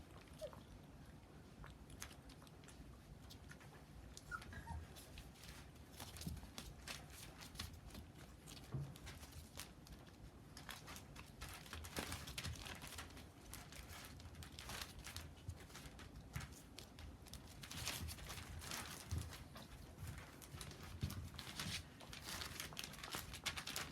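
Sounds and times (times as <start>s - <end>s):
puppies moving and scuffling: 0.0s - 23.9s.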